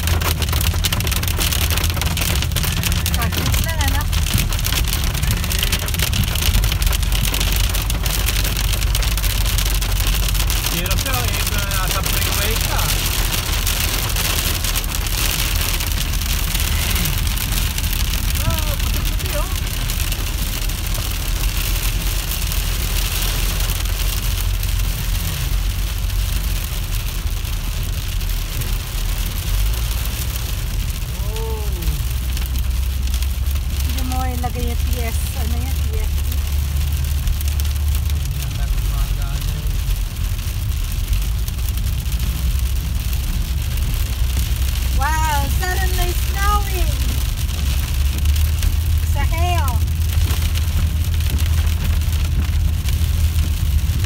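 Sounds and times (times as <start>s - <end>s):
car driving rumble: 0.0s - 54.0s
hail hitting car roof: 0.0s - 54.0s.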